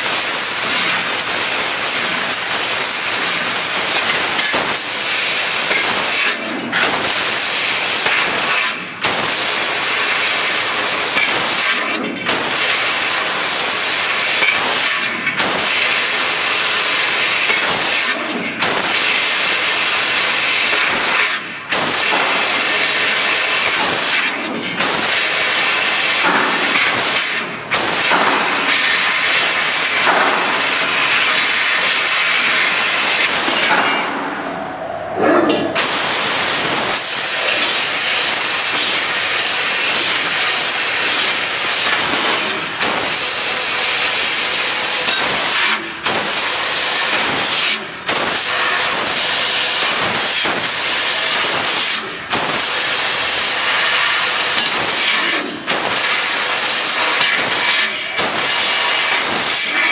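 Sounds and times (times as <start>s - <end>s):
laser cutter hissing: 0.0s - 35.1s, 35.7s - 59.9s.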